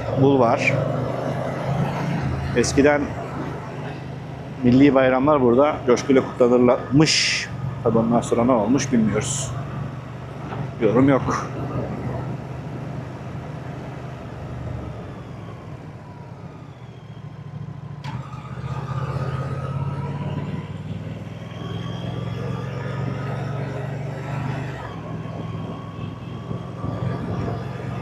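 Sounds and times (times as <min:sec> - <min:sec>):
motorcycle engine and exhaust: 0:00.0 - 0:28.0.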